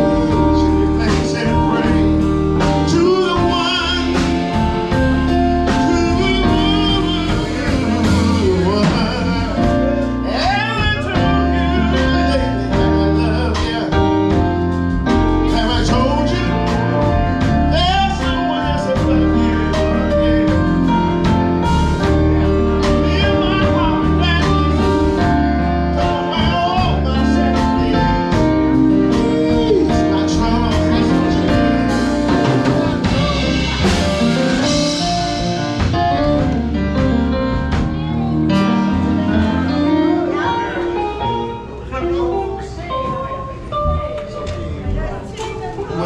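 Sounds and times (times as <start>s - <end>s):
person singing: 0.0s - 41.6s
live band playing soul song: 0.0s - 46.0s.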